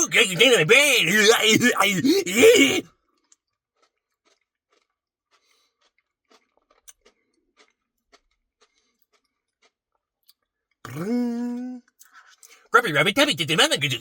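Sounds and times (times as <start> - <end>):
faint chewing and mouth sounds: 0.0 - 14.0.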